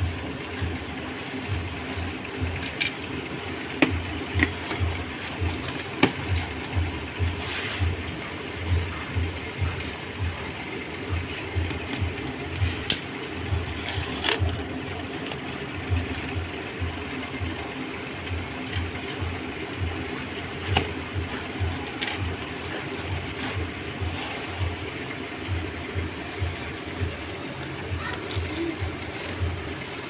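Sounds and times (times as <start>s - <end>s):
background hum: 0.0s - 30.0s.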